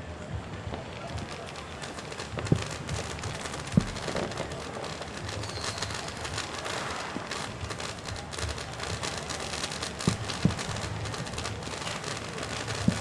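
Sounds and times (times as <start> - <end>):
fireworks crackling and fizzing: 0.0 - 13.0
firework booms: 0.3 - 13.0.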